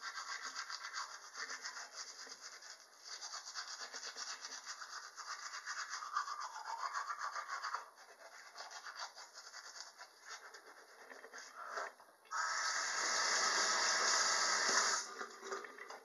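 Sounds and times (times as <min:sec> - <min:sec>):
toothbrush scrubbing teeth: 0:00.0 - 0:16.0.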